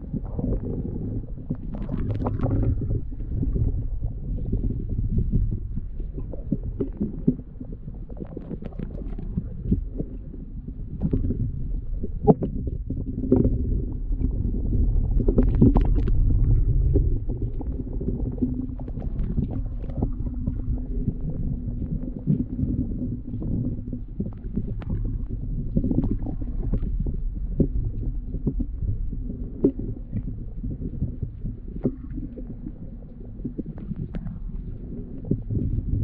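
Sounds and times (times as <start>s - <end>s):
faint steady hum: 0.0s - 36.0s
underwater water rumble: 0.0s - 36.0s.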